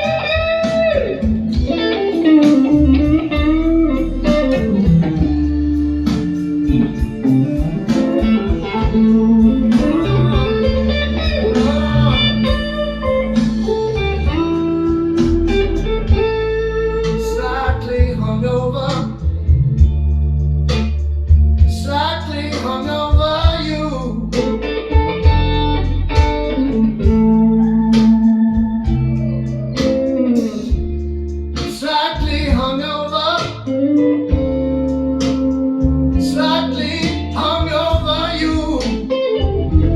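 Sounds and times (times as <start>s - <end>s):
blues music with electric guitar: 0.0s - 39.9s
steady bass: 0.0s - 39.9s.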